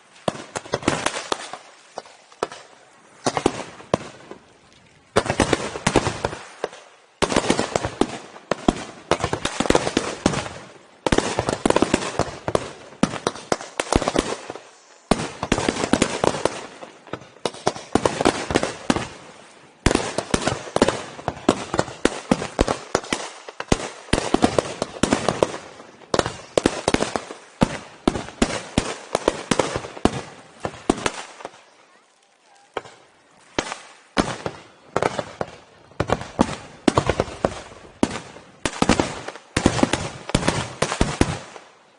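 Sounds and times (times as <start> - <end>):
firework bangs and crackling: 0.0 - 4.4, 5.1 - 31.8, 32.7 - 41.8.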